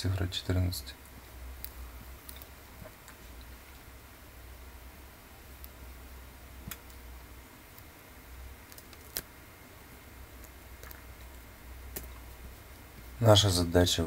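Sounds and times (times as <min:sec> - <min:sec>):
low steady hum and hiss: 0:00.0 - 0:14.0.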